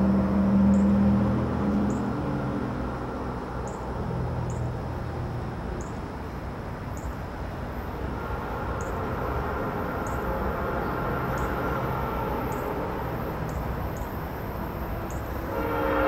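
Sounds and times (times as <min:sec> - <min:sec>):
distant vehicles rumbling: 0:00.0 - 0:16.0.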